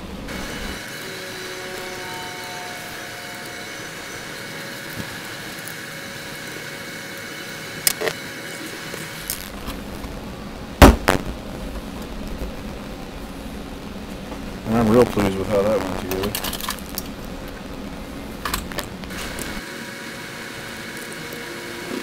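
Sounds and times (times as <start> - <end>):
electronic hiss with faint whine: 0.0 - 22.0.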